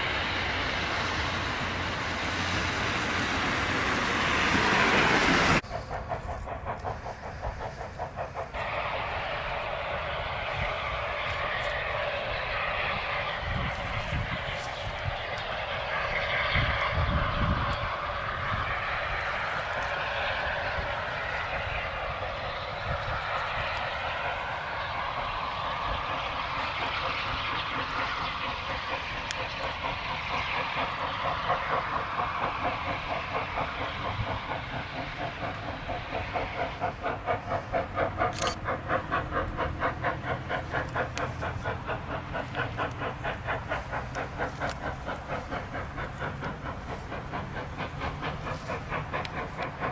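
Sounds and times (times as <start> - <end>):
train passing: 0.0 - 49.9.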